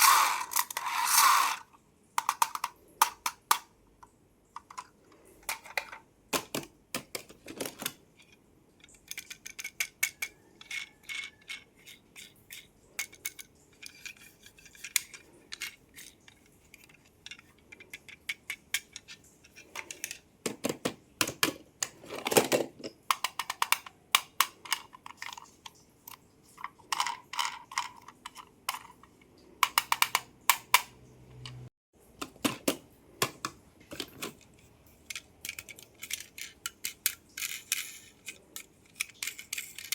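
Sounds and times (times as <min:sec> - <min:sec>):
toy cars tapping and clicking: 0:00.0 - 0:39.9.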